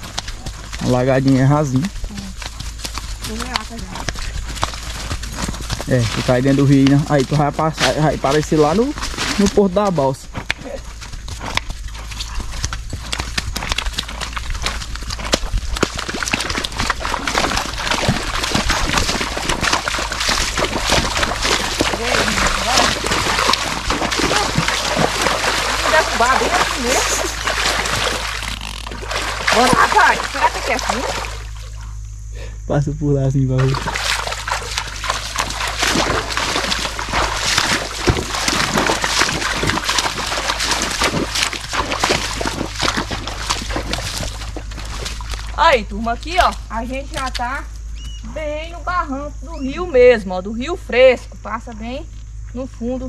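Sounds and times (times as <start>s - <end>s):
hooves splashing through water: 0.0s - 31.8s, 33.5s - 50.7s.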